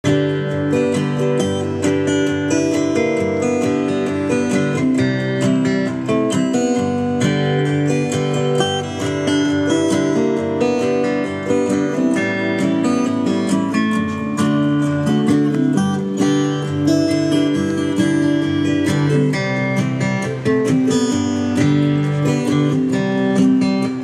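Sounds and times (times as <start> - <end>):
instrumental music: 0.0 - 24.0.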